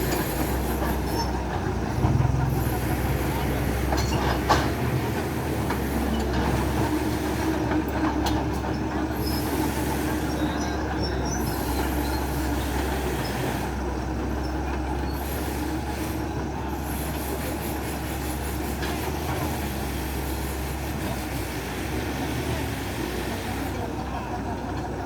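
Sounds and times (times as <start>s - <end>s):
engines rumbling: 0.0s - 25.0s.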